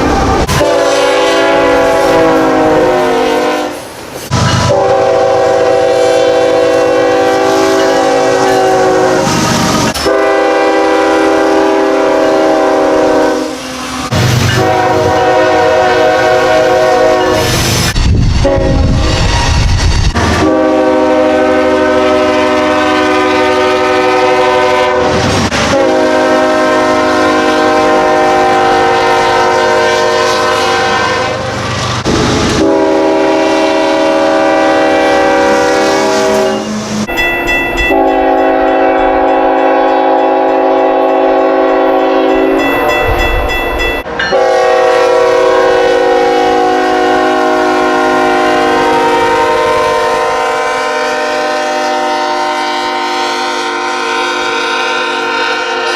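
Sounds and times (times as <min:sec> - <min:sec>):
locomotive horn chord blasts: 0:00.0 - 0:03.9, 0:04.6 - 0:17.6, 0:18.4 - 0:19.1, 0:20.2 - 0:31.5, 0:32.6 - 0:55.9.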